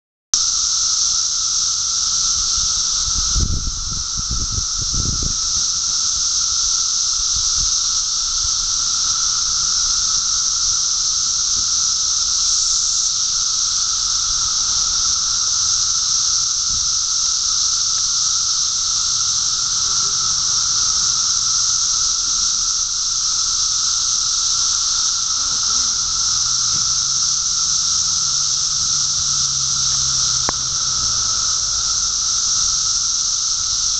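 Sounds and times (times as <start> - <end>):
cicada chorus hissing drone: 0.4 - 33.9
low steady whine: 0.4 - 33.9.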